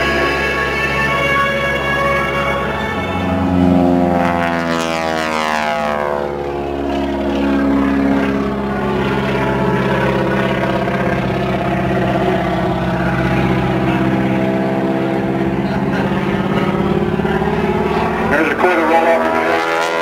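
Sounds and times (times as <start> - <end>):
propeller airplane passing overhead: 0.0 - 20.0.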